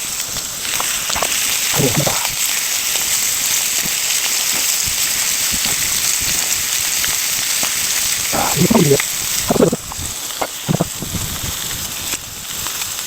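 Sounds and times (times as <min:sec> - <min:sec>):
fish sizzling on grill: 0:00.0 - 0:13.0
wood fire crackling: 0:00.0 - 0:13.0.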